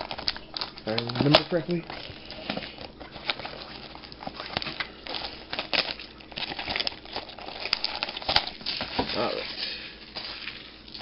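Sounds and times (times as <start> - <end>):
plastic wrap crinkling and tearing: 0.0 - 11.0.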